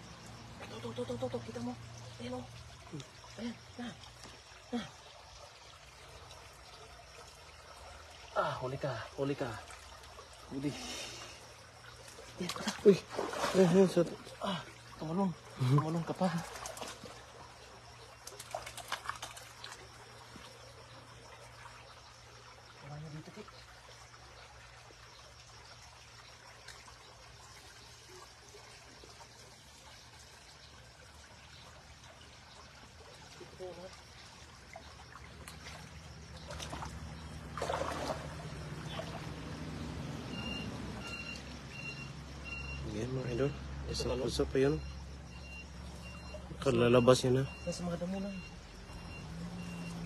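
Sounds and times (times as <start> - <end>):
small splashes and ticks: 0.0 - 50.0
stream water trickling: 0.0 - 50.0.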